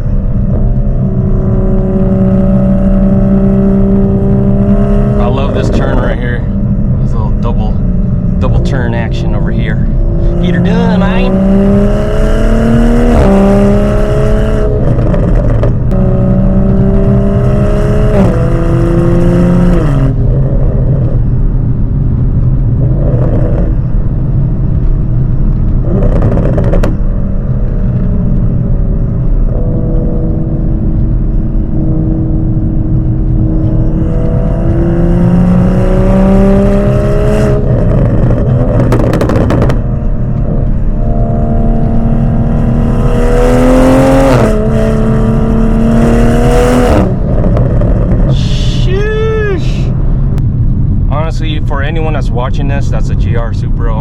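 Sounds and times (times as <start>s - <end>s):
car exhaust note revving: 0.0s - 54.0s.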